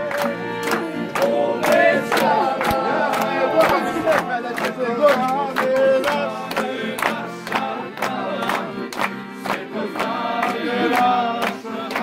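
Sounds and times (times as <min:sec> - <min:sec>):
group of people singing: 0:00.0 - 0:12.0
hand claps: 0:00.0 - 0:12.0.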